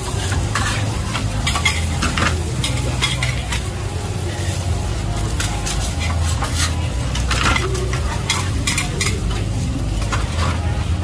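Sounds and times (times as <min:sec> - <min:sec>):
food sizzling in hot oil: 0:00.0 - 0:10.5
metal spatulas scraping on griddle: 0:00.0 - 0:10.9.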